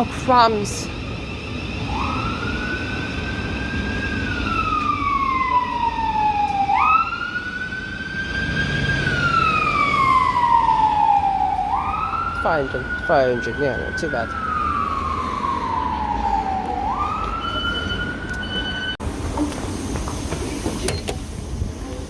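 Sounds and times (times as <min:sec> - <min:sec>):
emergency siren wailing: 0:00.0 - 0:19.0
low traffic rumble: 0:00.0 - 0:22.0.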